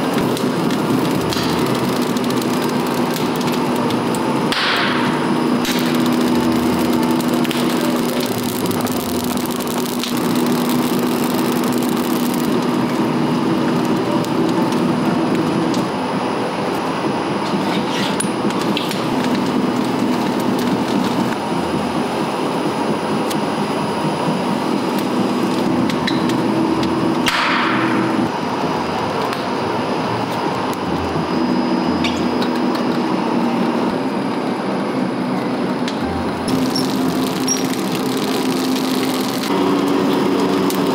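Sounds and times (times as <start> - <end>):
rubber mill machine drone: 0.0 - 40.9.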